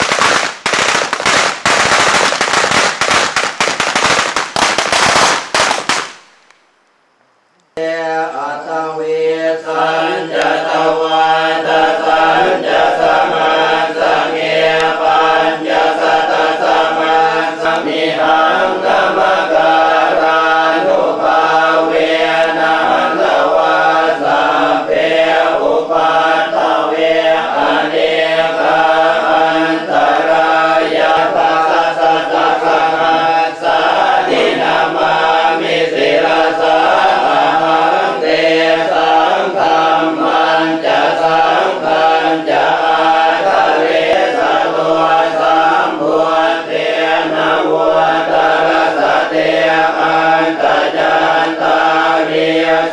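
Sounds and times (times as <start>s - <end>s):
monks chanting: 7.8s - 52.9s.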